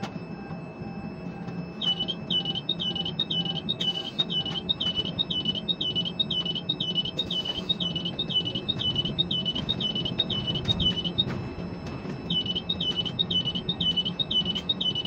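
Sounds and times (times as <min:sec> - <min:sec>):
crane alarm beeping: 0:00.0 - 0:15.0
low machinery hum: 0:00.0 - 0:15.0.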